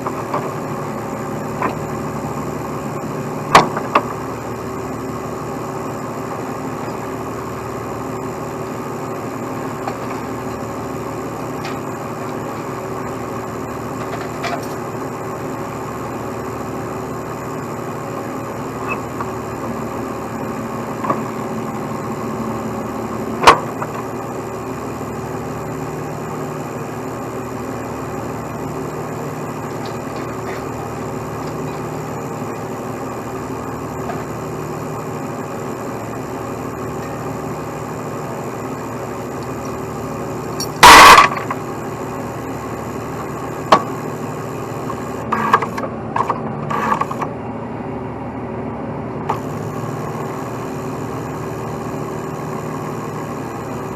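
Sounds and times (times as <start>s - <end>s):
truck engine idling: 0.0s - 53.9s.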